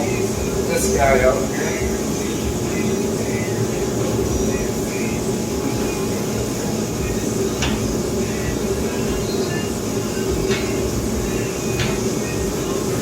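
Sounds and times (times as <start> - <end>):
shop heater whirring hum: 0.0 - 13.0.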